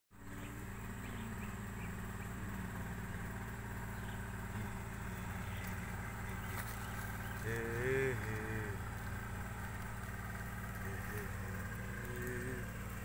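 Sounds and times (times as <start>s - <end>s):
low engine hum: 0.1s - 13.0s.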